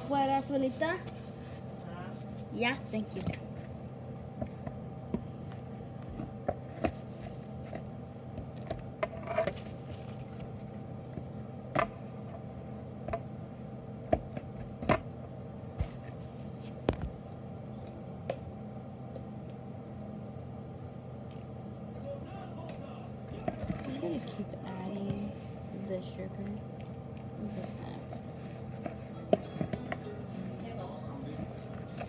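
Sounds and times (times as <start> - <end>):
steady electrical hum: 0.0 - 32.0.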